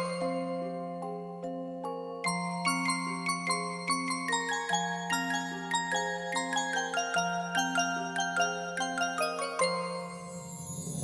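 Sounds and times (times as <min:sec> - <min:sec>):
glockenspiel melody: 0:00.0 - 0:11.0.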